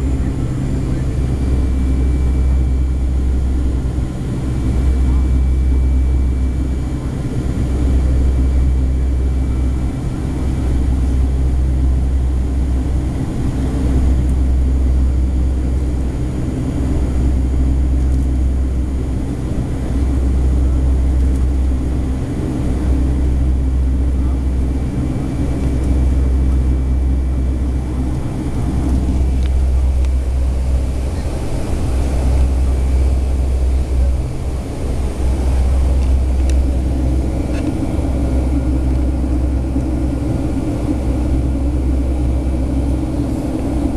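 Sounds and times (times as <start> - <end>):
engine and airflow rumble: 0.0 - 43.9.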